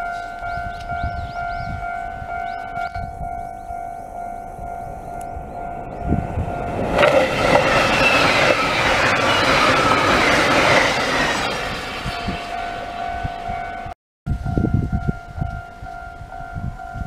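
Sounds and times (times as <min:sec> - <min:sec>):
train passing with clattering wheels: 0:00.0 - 0:14.0
crossing warning bell: 0:00.0 - 0:17.0.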